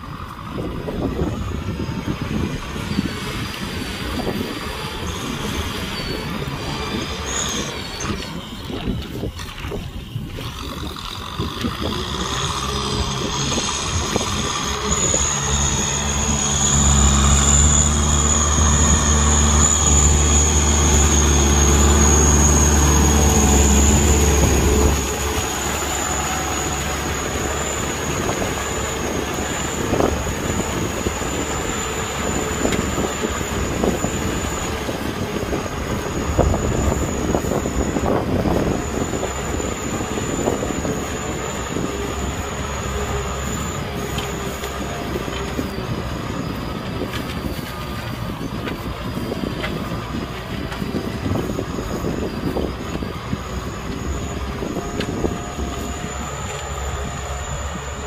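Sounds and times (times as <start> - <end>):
high-pitched whine: 0.0 - 58.0
tractor diesel engine running: 0.0 - 58.0.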